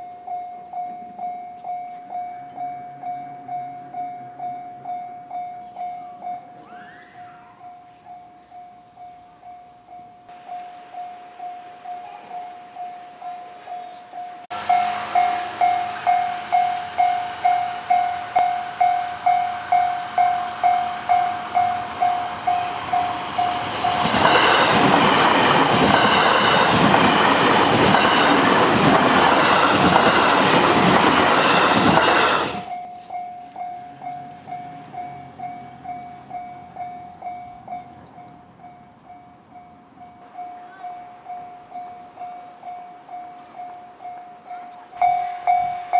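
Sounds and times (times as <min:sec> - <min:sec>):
level crossing warning bell: 0:00.0 - 0:45.9
electric train rumble: 0:08.8 - 0:45.9.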